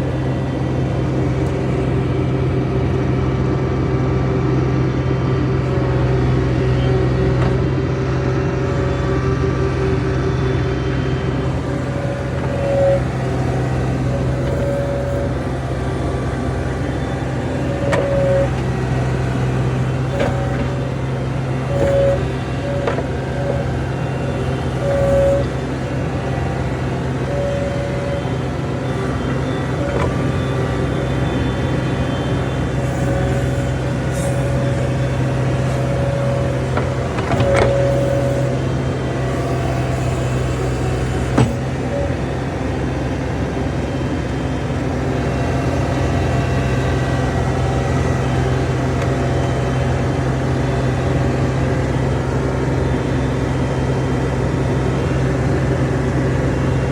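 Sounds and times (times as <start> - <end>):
diesel engine running: 0.0 - 56.9
higher whines: 9.9 - 56.8.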